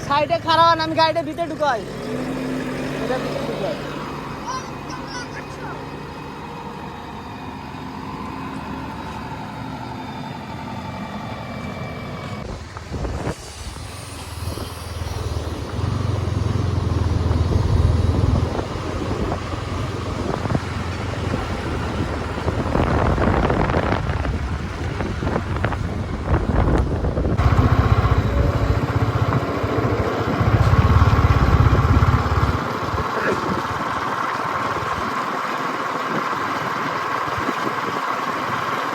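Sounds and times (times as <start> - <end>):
vehicle engine driving: 0.0 - 38.9.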